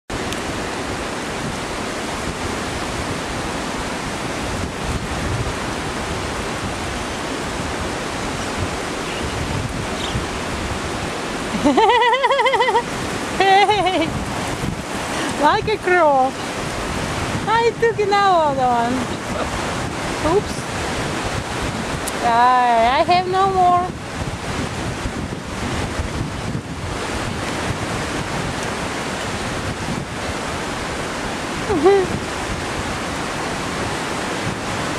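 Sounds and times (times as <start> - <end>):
steady rushing noise: 0.1 - 34.9
surf washing: 0.1 - 34.9
wind buffeting microphone: 0.1 - 34.9.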